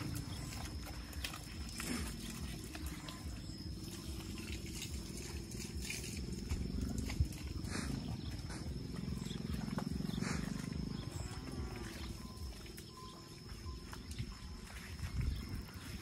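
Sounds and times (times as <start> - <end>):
water buffalo grunting: 0.0 - 14.6.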